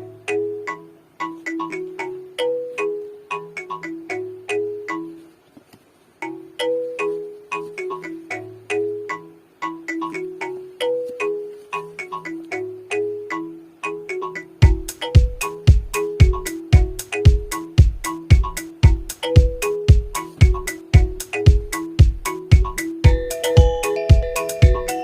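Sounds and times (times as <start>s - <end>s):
light ringtone-like melody: 0.0s - 5.4s, 6.2s - 25.0s.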